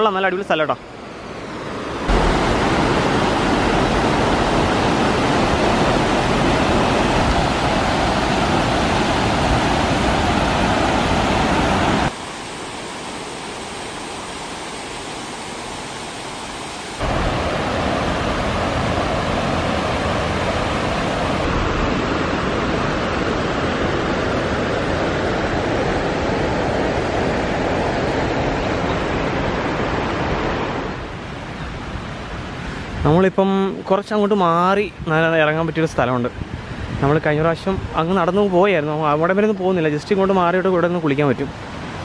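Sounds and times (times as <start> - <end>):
stream water rushing: 0.0 - 34.6, 35.2 - 42.0.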